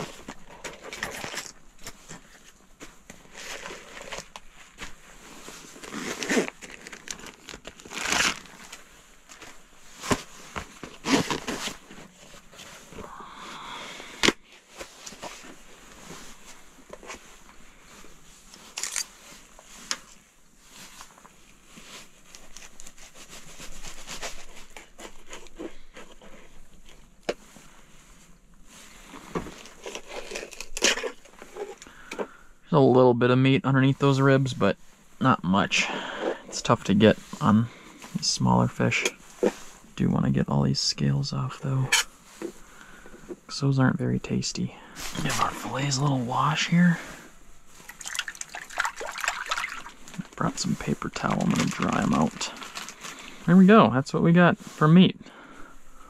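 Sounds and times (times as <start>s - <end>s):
rustling: 0.0s - 32.6s, 33.8s - 40.2s, 44.8s - 53.9s.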